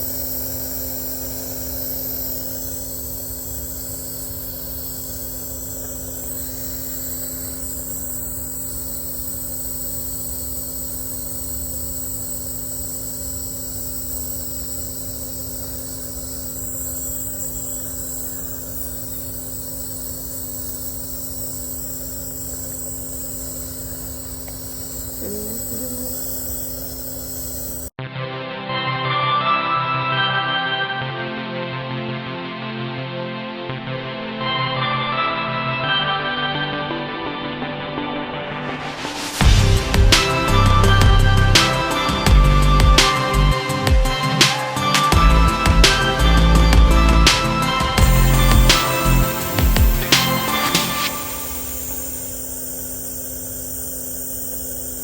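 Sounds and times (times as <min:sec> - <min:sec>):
air compressor hum: 0:00.0 - 0:28.0, 0:38.7 - 0:55.0.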